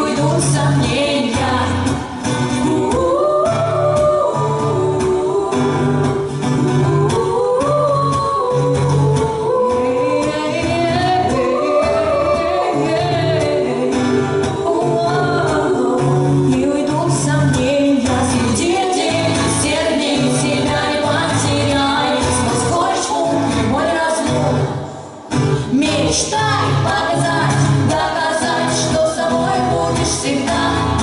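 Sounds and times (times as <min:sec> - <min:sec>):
guitar accompaniment: 0:00.0 - 0:31.0
person singing: 0:00.0 - 0:31.0.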